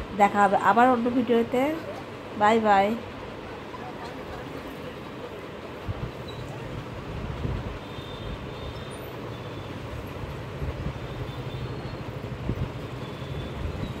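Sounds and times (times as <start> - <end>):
street background rumble: 0.0 - 14.0.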